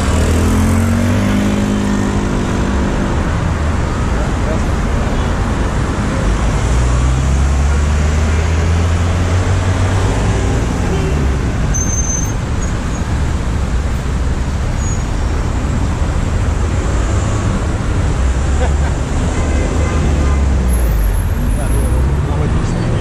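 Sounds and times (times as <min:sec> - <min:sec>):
tyre and road noise: 0:00.0 - 0:23.0.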